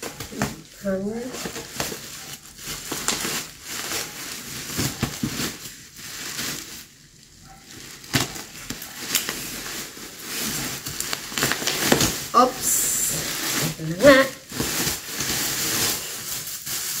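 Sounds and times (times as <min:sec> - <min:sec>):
plastic crinkling and crackling: 0:00.0 - 0:17.0.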